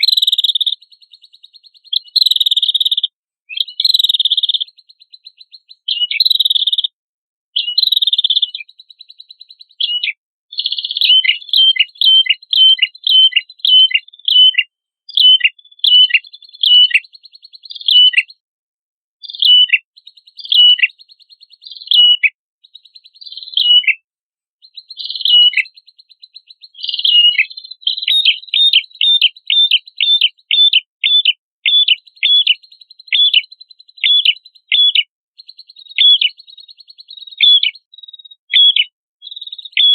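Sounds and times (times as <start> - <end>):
harsh buzzy bird phrases: 0.0 - 6.9, 7.6 - 18.4, 19.2 - 21.0, 21.6 - 22.3, 23.2 - 24.0, 24.8 - 39.9.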